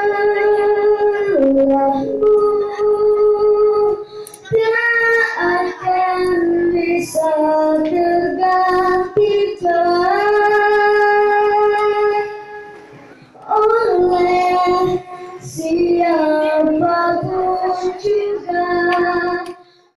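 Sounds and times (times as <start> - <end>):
child singing: 0.0 - 12.7, 13.4 - 19.6.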